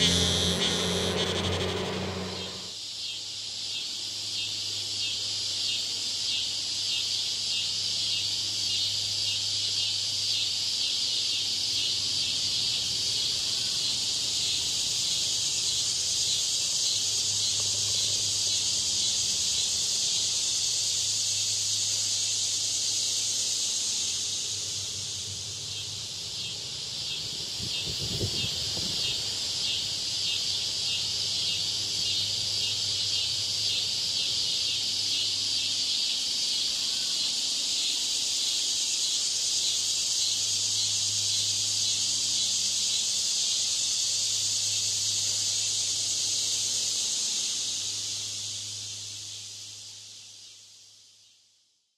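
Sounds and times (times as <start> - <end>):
high-pitched insect chorus: 0.0 - 51.5.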